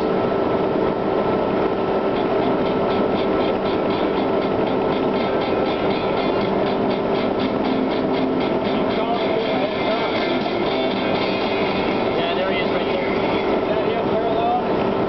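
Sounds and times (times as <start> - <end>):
diesel engine and road noise: 0.0 - 15.0.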